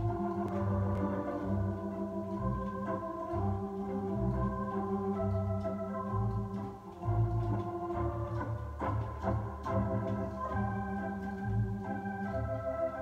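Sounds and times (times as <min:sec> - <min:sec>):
organ playing a polka: 0:00.0 - 0:13.0.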